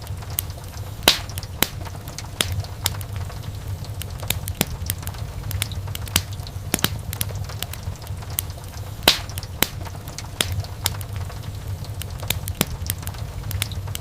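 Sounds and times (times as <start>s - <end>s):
burning wood popping and snapping: 0.0s - 14.0s
low rumble of flame: 0.0s - 14.0s.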